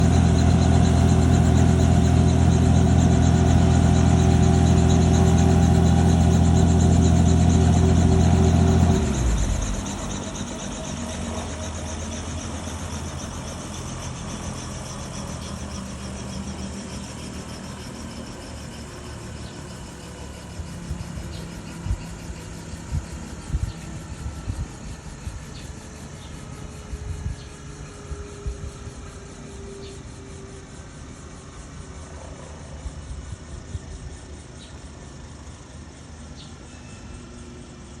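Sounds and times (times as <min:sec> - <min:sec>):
helicopter engine and rotor chop: 0:00.0 - 0:38.0.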